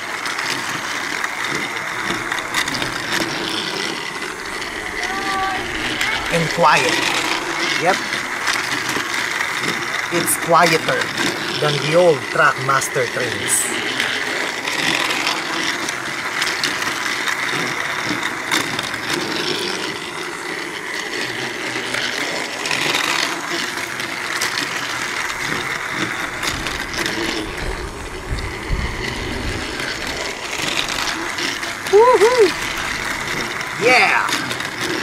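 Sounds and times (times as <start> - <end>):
toy train motor whirring: 0.0 - 35.0.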